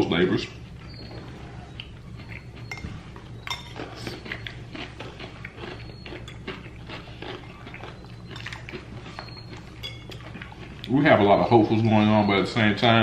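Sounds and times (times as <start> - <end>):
crunchy chewing: 0.4 - 12.0.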